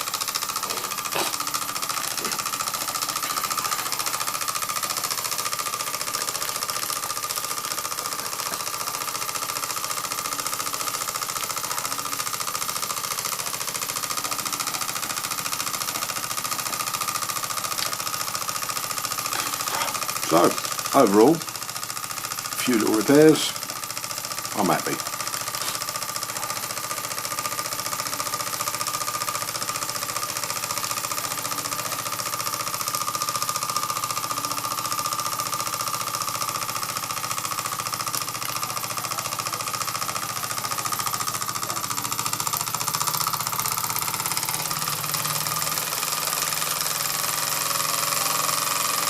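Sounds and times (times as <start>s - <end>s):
toy steam engine chattering: 0.0s - 49.0s.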